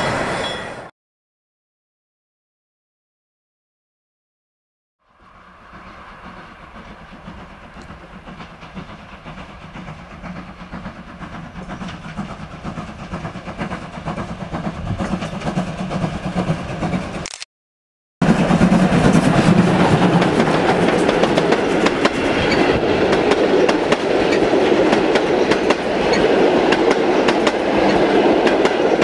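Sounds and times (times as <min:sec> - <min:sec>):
steam locomotive passing: 0:00.0 - 0:00.9, 0:05.0 - 0:17.3, 0:18.2 - 0:29.0.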